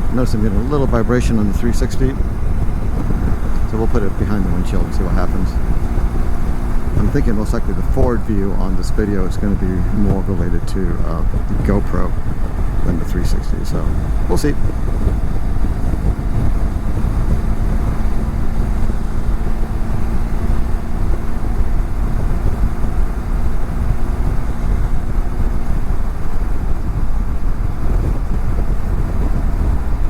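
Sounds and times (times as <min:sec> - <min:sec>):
motorcycle engine droning: 0:00.0 - 0:30.0
wind rushing over microphone: 0:00.0 - 0:30.0.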